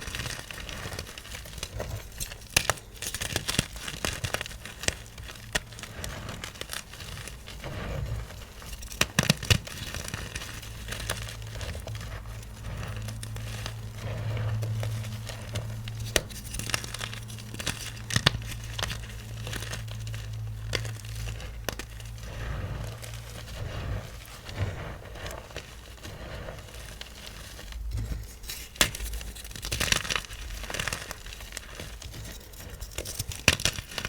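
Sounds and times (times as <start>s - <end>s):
low steady hum: 0.0s - 33.2s
chalk crunching and cracking: 0.0s - 34.0s.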